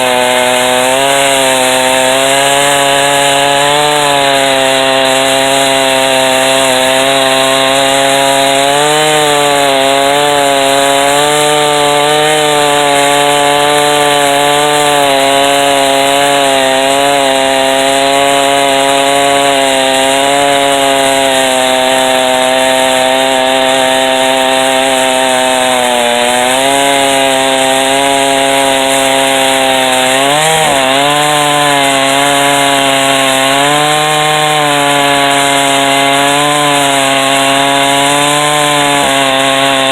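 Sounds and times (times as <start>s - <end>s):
chainsaw mill cutting log: 0.0s - 39.9s.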